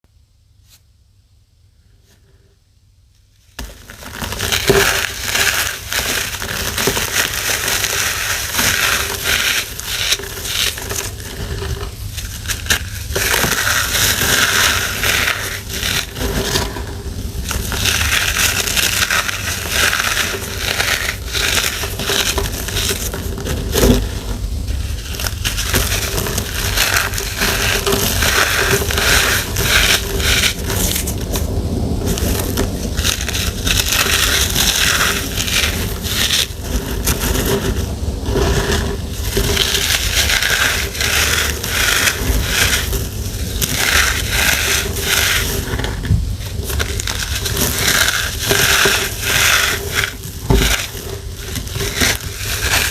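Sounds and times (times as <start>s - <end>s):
pressed powder crunching: 3.4s - 52.9s.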